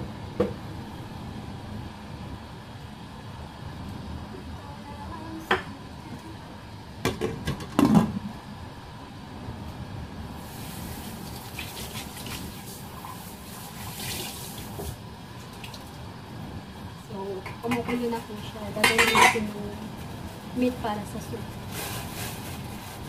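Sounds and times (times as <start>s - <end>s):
water boiling in a pot: 0.0s - 23.0s.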